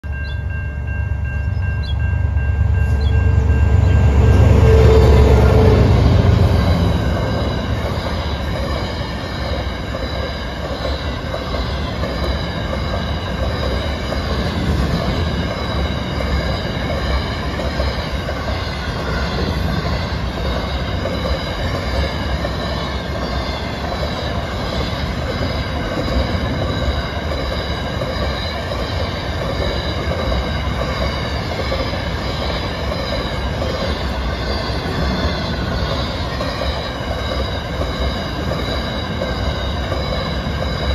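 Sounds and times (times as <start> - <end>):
diesel locomotives passing: 0.0 - 40.9
train wagons rumbling and clattering: 0.0 - 40.9
thin high steady tones: 0.1 - 40.9.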